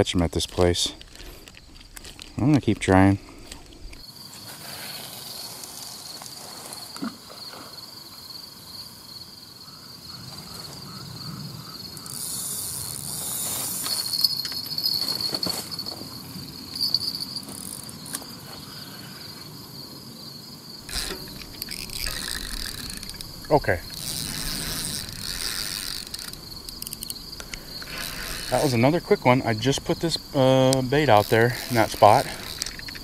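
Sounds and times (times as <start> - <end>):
insect chorus trilling: 0.0 - 33.0.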